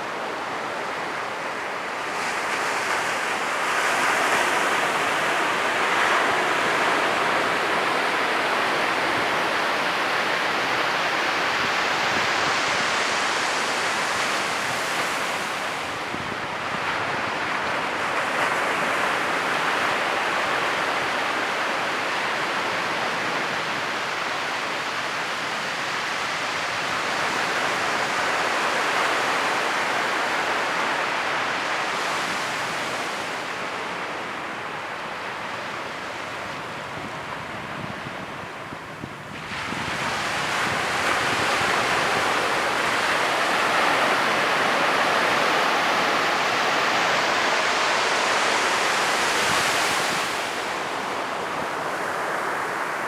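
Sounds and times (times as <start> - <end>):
ocean surf breaking on beach: 0.0 - 53.0.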